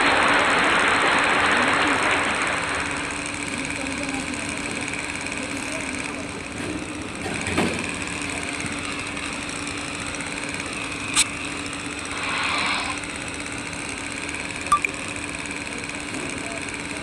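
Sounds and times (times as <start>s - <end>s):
small motor humming: 2.9s - 17.0s.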